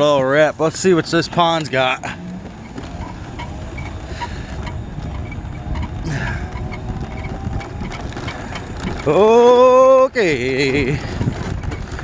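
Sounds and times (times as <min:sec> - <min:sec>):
off-road vehicle rumbling and rattling: 0:00.0 - 0:12.0.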